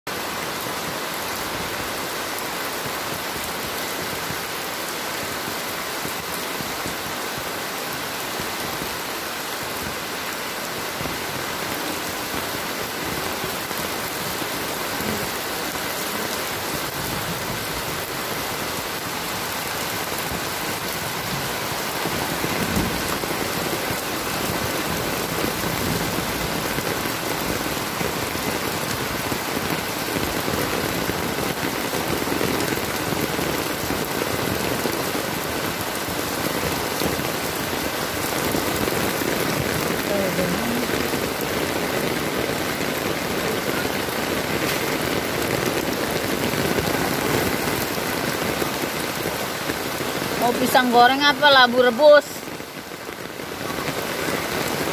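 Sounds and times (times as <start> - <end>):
heavy rain on paving and puddles: 0.1 - 54.9.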